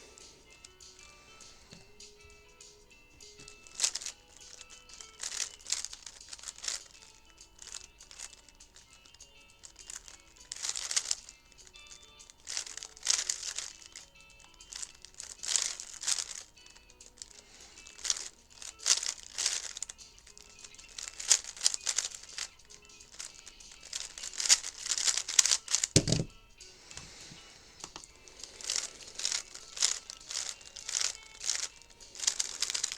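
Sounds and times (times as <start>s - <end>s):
speed cube plastic clicking: 0.1s - 26.4s, 27.8s - 32.9s.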